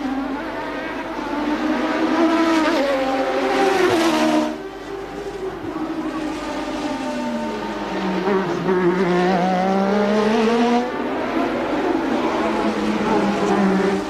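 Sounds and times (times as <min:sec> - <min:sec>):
racing car engines at high revs: 0:00.0 - 0:14.0.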